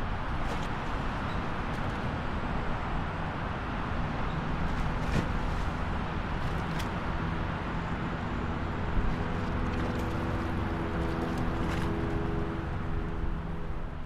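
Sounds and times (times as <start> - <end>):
churning wake water: 0.0 - 14.0.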